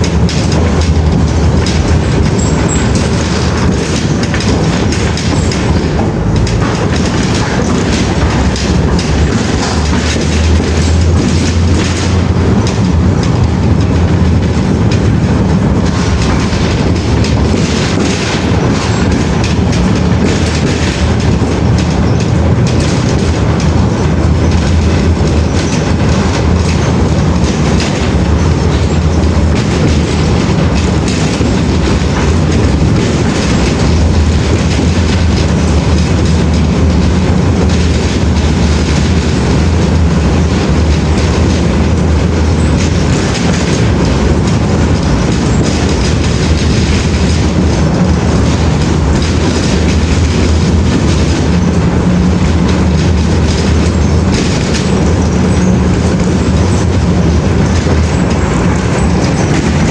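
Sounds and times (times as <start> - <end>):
train rumbling on rails: 0.0 - 59.9
train wheels clattering: 0.0 - 59.9.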